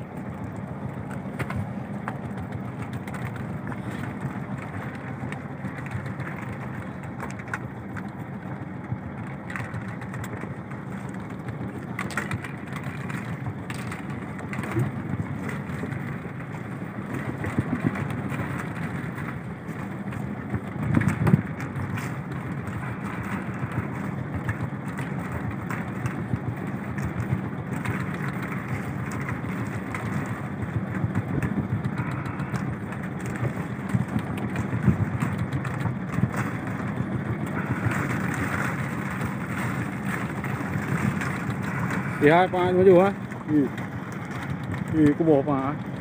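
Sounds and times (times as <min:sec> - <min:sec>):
boat engine running: 0:00.0 - 0:46.0
wind and sea noise: 0:00.0 - 0:46.0.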